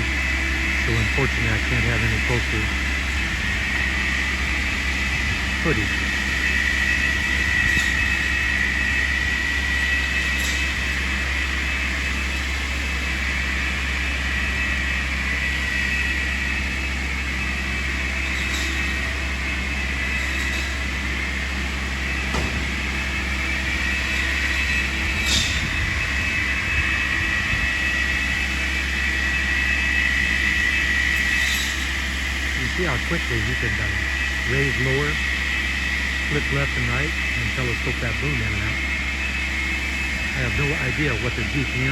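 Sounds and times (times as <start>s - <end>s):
distant engine drone: 0.0s - 41.9s
high hydraulic whine: 0.0s - 41.9s.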